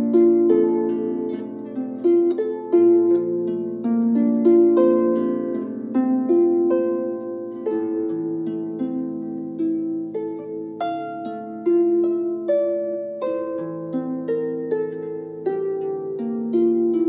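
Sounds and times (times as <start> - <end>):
harp melody: 0.0 - 17.0.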